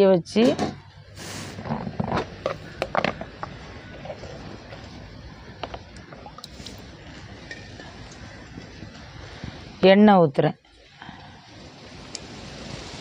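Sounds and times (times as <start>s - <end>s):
steady low hiss: 0.0s - 13.0s
wood fire crackling: 0.8s - 10.0s, 10.6s - 13.0s.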